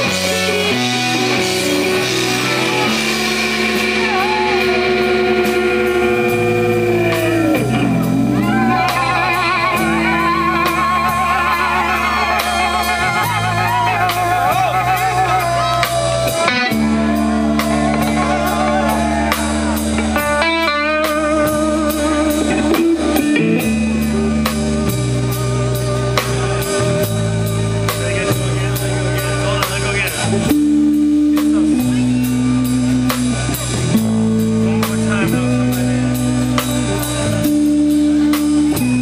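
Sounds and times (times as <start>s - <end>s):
bass guitar held notes: 0.0s - 39.0s
drum kit with cymbals: 0.0s - 39.0s
electric guitar bent notes: 0.0s - 39.0s.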